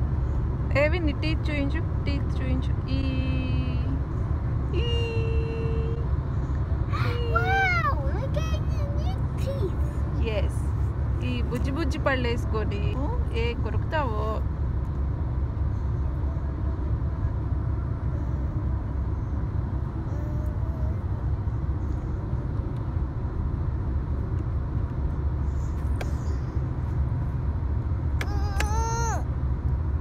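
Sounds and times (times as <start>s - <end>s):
car cabin road and engine rumble: 0.0s - 30.0s.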